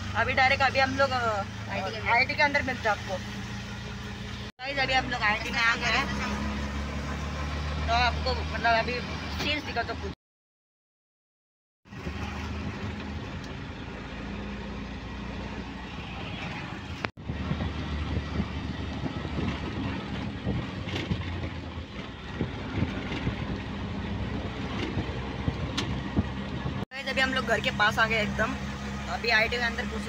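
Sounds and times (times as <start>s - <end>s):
auto-rickshaw engine running: 0.0s - 10.1s, 11.9s - 30.0s
road noise: 0.0s - 10.2s, 11.8s - 30.0s.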